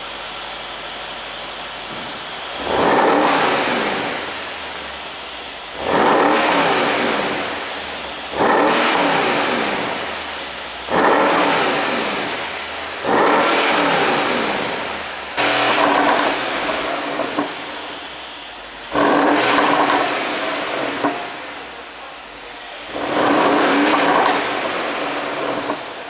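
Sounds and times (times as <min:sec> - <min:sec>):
car engine revving: 0:00.0 - 0:26.0
exhaust crackling and popping: 0:00.0 - 0:26.0.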